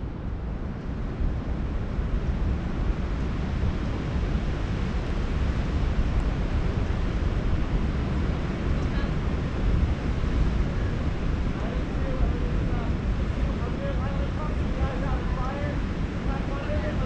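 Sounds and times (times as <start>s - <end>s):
wind buffeting microphone: 0.0s - 17.0s
ocean surf: 0.2s - 17.0s.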